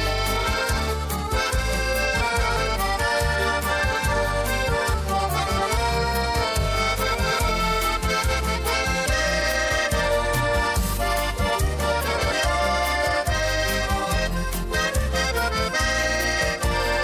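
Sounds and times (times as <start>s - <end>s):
accordion folk music: 0.0s - 17.0s
steady bass beat: 0.0s - 17.0s.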